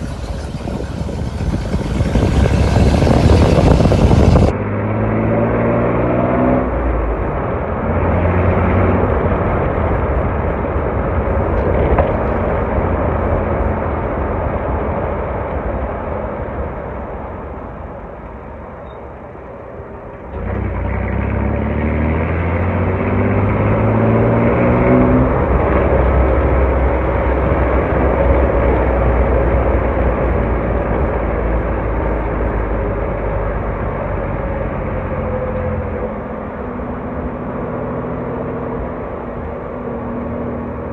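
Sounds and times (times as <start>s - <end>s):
car engine revving: 0.0s - 15.4s, 20.2s - 40.9s.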